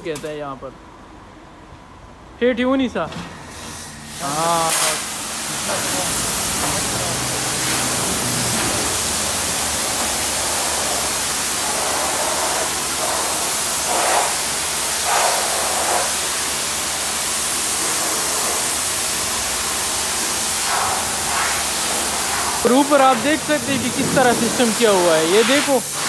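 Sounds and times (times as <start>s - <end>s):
pressure washer spraying: 4.1s - 26.0s.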